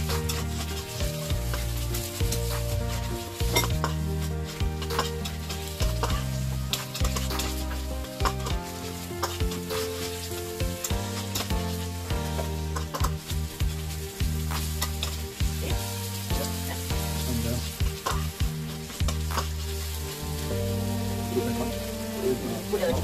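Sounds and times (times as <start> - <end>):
spatula clacking and scraping a pan: 0.0 - 20.5
food sizzling in a wok: 0.0 - 23.0.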